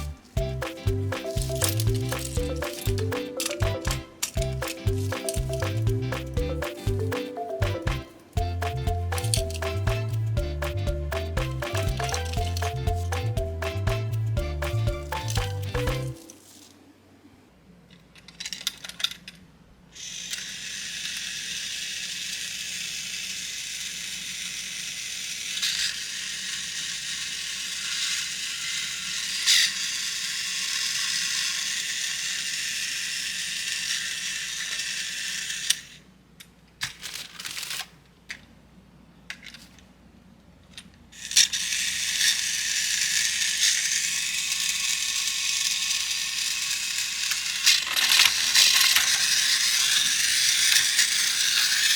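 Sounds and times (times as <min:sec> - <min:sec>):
toy train motor whirring: 0:00.0 - 0:07.1, 0:07.9 - 0:16.8, 0:18.0 - 0:36.1, 0:36.8 - 0:38.0, 0:40.7 - 0:51.9.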